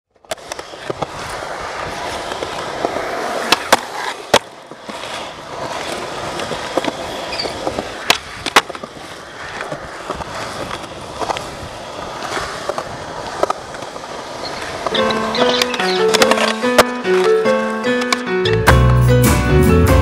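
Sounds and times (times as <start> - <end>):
skateboard wheels rolling on concrete: 0.1 - 20.0
skateboard popping and landing clacks: 0.2 - 17.4
skateboard grinding a ledge: 0.3 - 18.2.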